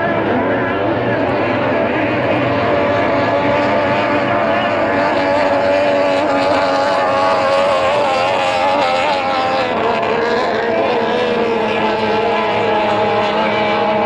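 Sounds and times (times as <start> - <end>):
powerboat engines running hard: 0.0 - 14.0.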